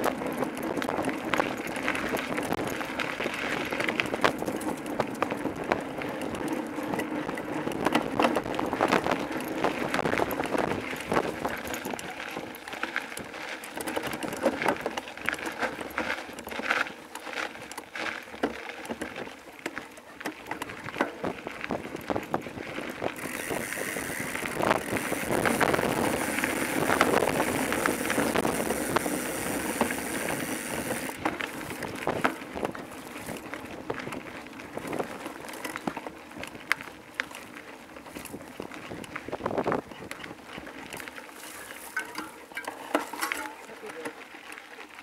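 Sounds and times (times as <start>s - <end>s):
bike rattling: 0.0s - 45.0s
bike tyres crunching on gravel: 0.0s - 45.0s.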